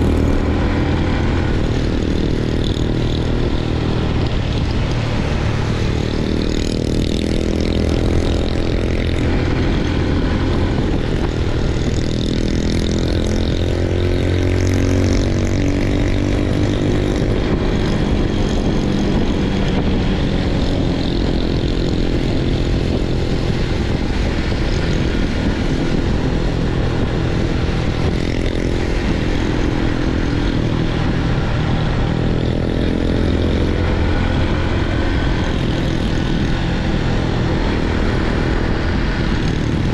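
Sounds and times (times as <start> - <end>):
motorbike engine running: 0.0 - 39.9
wind and road noise: 0.0 - 39.9.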